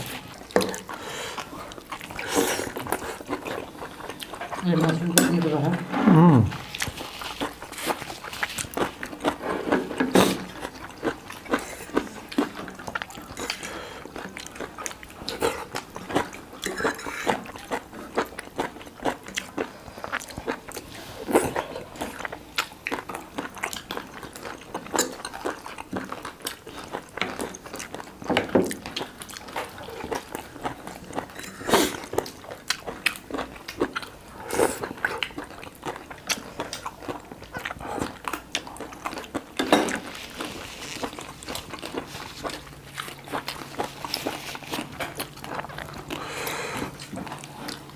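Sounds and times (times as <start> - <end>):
chewing and biting food: 0.0 - 5.1, 6.6 - 47.9.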